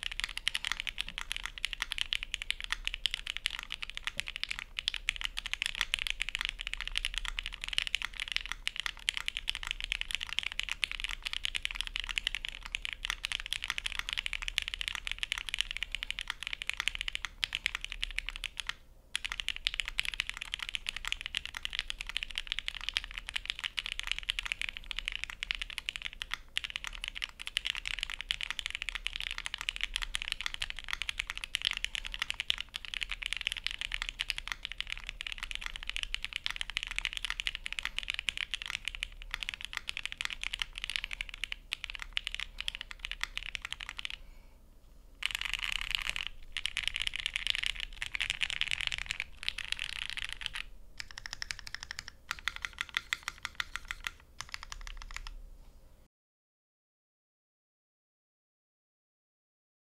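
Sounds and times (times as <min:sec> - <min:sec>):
fast typing on mechanical keyboard: 0:00.0 - 0:44.2, 0:45.2 - 0:55.4.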